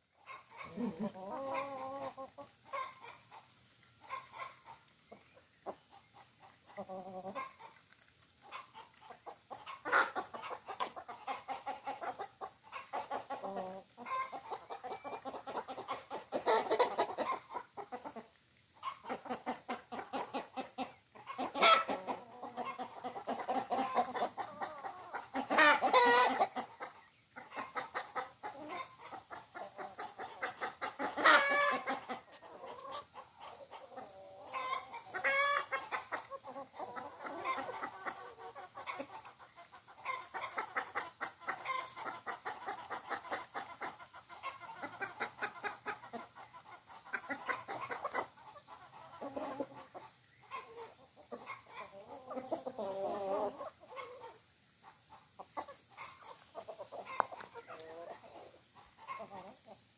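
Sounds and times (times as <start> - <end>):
hens clucking: 0.0 - 59.9
hen drawn-out calls: 8.4 - 59.8.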